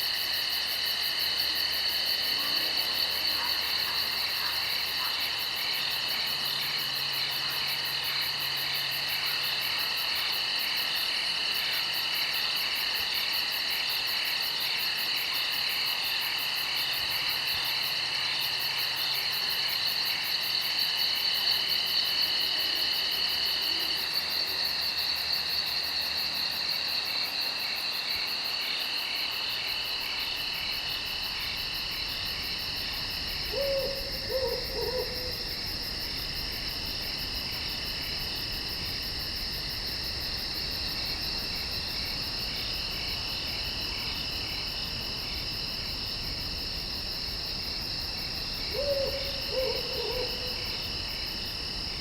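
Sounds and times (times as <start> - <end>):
insects and crickets trilling: 0.0 - 52.0.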